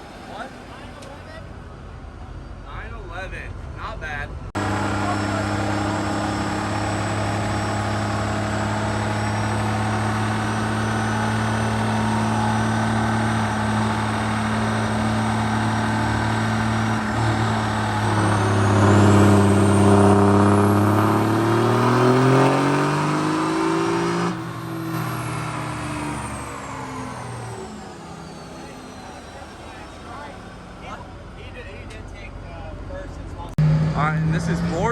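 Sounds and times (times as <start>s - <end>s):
diesel truck engine revving: 4.4s - 34.9s.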